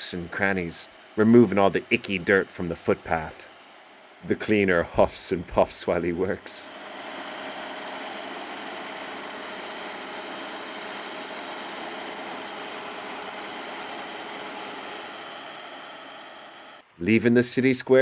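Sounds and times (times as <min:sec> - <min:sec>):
spinning brushes hissing: 0:00.0 - 0:16.8
street cleaning machine engine hum: 0:00.0 - 0:17.1.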